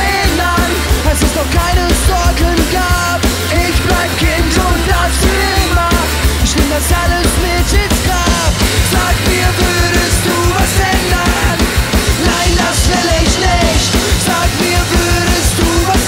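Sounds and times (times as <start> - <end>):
punk rock band playing live: 0.0 - 16.0.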